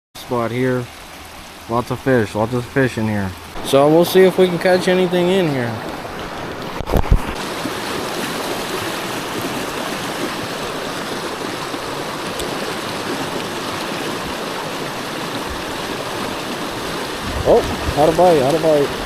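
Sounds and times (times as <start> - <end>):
stream water running: 0.2 - 19.0.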